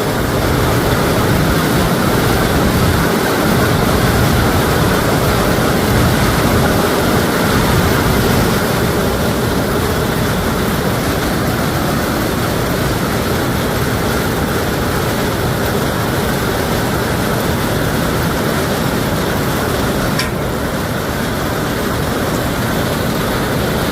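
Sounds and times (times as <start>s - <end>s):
hail and heavy rain: 0.0s - 23.9s.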